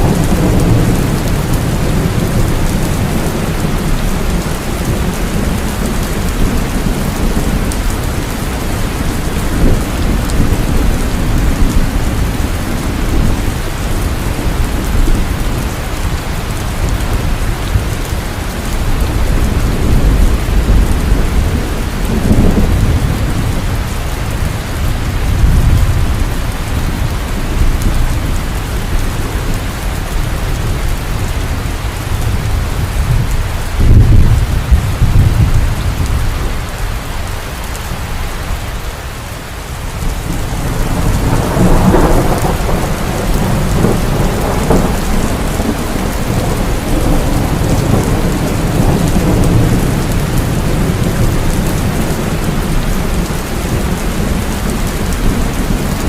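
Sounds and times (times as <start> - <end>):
thunder rumbling low: 0.0 - 38.8, 39.8 - 56.0
heavy rain: 0.0 - 56.0.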